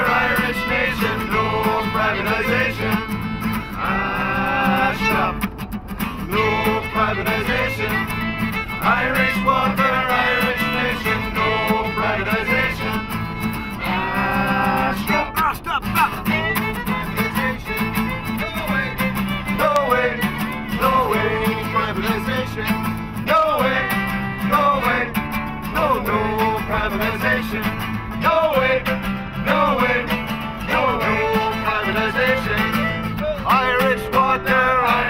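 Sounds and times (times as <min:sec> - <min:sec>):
fiddle playing ornamented melody: 0:00.0 - 0:15.4, 0:16.1 - 0:25.3, 0:26.1 - 0:35.0
guitar accompaniment: 0:00.0 - 0:35.0.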